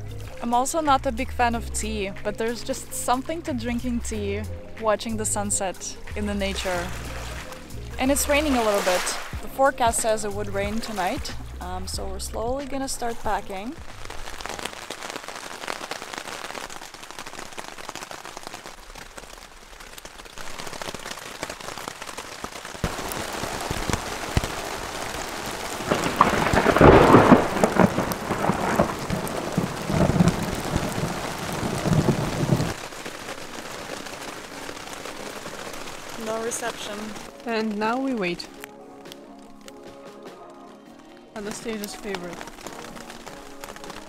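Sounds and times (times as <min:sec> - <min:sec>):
rain pattering on a tent: 0:00.0 - 0:05.3, 0:05.9 - 0:44.0.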